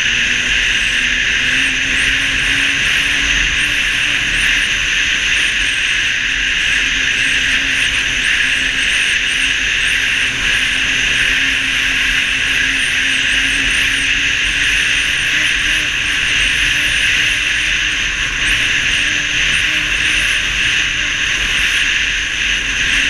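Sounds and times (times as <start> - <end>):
faint high whine: 0.0 - 23.0
snowmobile engine droning: 0.0 - 23.0.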